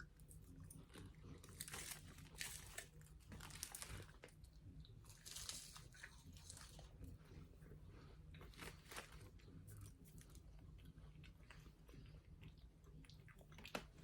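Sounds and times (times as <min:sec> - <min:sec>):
pastry crunching and crinkling: 0:00.0 - 0:14.0.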